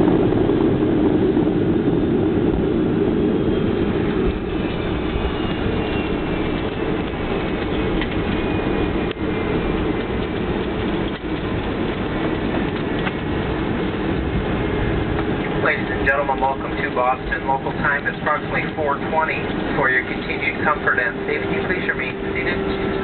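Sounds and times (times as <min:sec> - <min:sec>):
deep rumble of jet and wheels: 0:00.0 - 0:23.0
faint high engine whine: 0:00.0 - 0:23.0.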